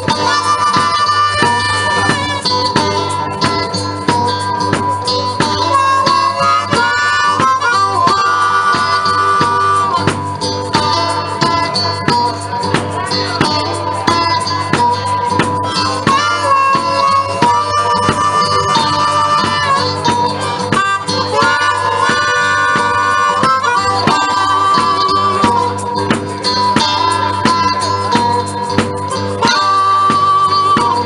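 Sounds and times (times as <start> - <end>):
blues harmonica: 0.0 - 31.0
guitar rhythm: 0.0 - 31.0.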